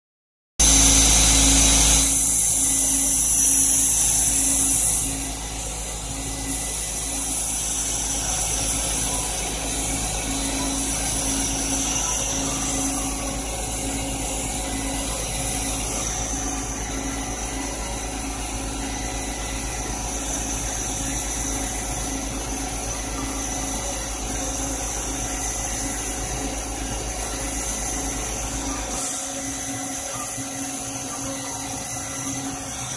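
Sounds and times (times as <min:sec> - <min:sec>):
laser cutter machine hum: 0:00.6 - 0:32.9.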